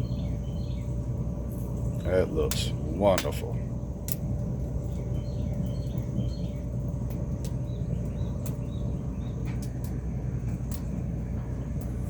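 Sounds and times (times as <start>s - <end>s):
small birds chirping faintly: 0.0s - 10.0s
faint steady hum: 0.0s - 12.0s
steady low rumble: 0.0s - 12.0s.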